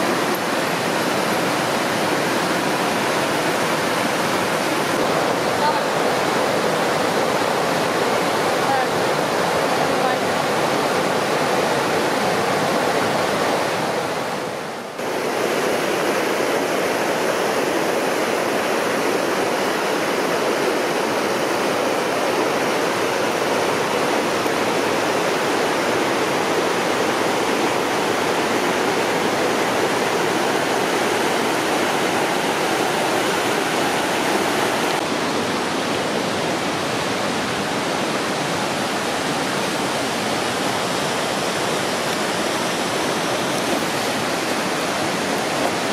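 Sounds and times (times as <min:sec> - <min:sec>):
water rushing over rock: 0:00.0 - 0:45.9.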